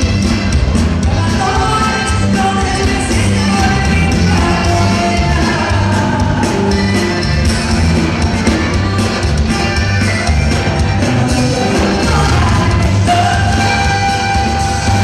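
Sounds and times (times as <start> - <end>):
live band music: 0.0 - 15.0
prominent bass line: 0.0 - 15.0.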